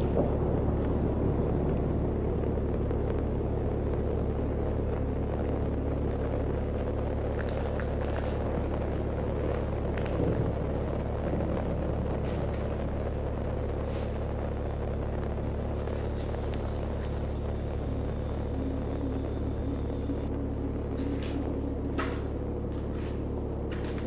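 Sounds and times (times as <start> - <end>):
low rumble with hum: 0.0 - 24.0.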